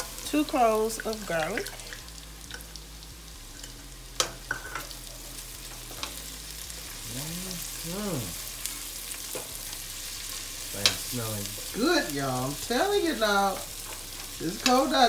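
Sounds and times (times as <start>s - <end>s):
vegetables sizzling in fat: 0.0s - 15.0s.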